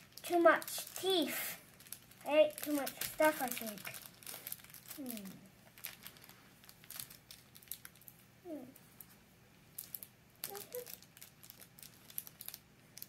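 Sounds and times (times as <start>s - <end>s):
plastic bag crinkling: 0.0s - 8.3s, 8.9s - 13.0s.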